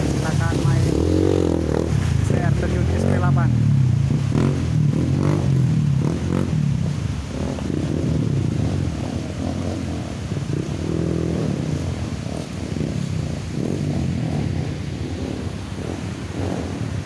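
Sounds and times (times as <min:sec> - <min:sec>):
dirt bike engine at low revs: 0:00.0 - 0:17.0
flowing water rushing: 0:00.0 - 0:17.0.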